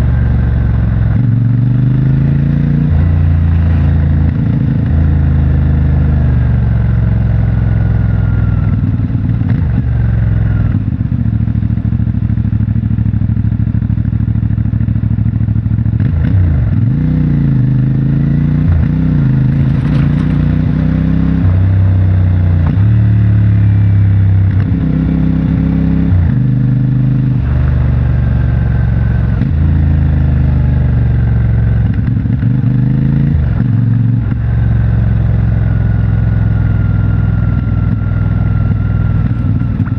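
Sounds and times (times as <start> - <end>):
motorcycle engine riding along: 0.0 - 39.9.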